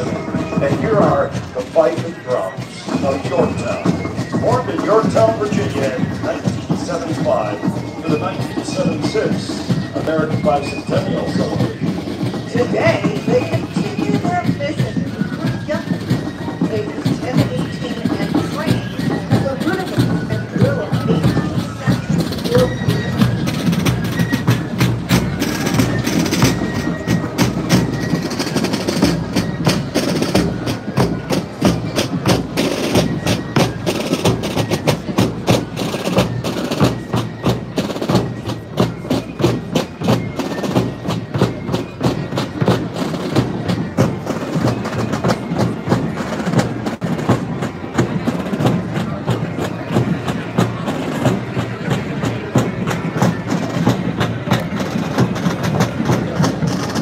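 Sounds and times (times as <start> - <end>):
marching snare drums: 0.0 - 57.0.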